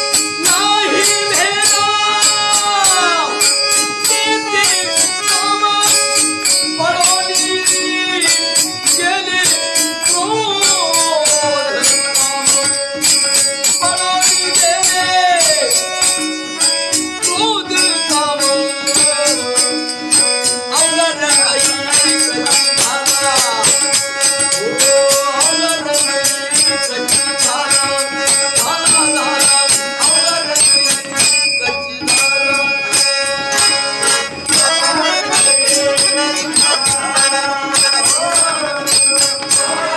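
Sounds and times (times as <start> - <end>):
jingling percussion beat: 0.0 - 39.9
man singing: 0.0 - 39.9.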